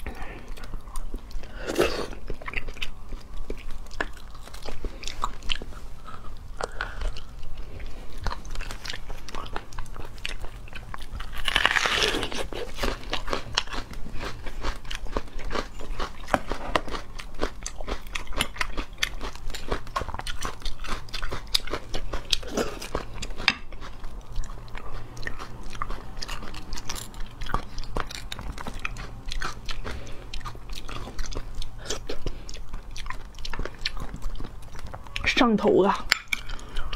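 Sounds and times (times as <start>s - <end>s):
wet chewing and biting: 0.0s - 35.4s.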